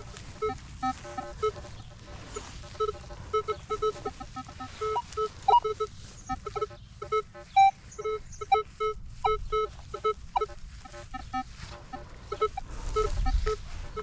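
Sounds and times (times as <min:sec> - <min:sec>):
metal detector beeping: 0:00.0 - 0:14.0.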